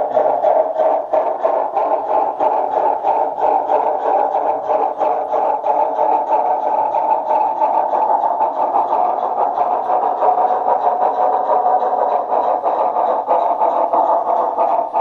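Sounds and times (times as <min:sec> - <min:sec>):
model locomotive whirring hum: 0:00.0 - 0:15.0.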